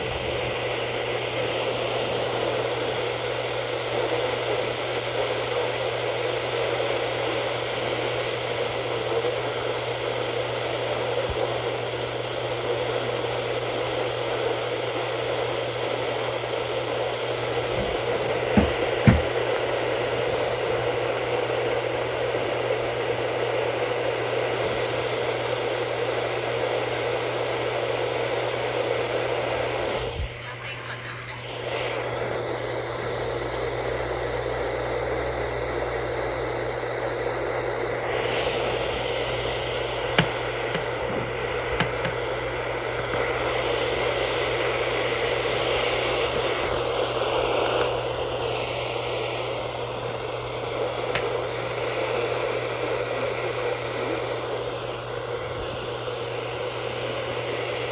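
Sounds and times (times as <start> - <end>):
low steady hum: 0.0 - 57.9
radio static hiss: 0.0 - 57.9.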